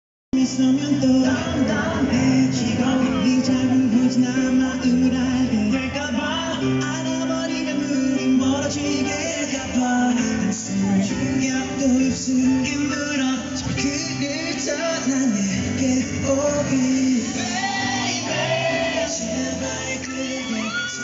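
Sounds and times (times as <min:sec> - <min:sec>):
male singer: 0:00.3 - 0:21.0
live band playing: 0:00.4 - 0:21.0.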